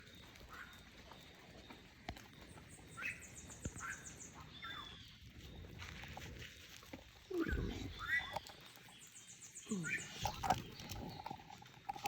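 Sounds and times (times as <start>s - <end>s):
birds chirping: 0.0s - 5.9s, 6.5s - 12.0s.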